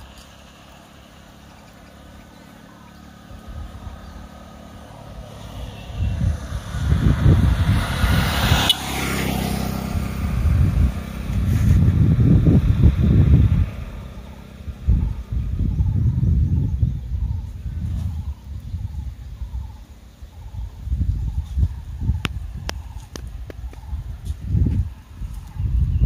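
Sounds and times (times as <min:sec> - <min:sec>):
low rumbling: 0:00.0 - 0:26.0
motorcycle passing by: 0:00.0 - 0:26.0.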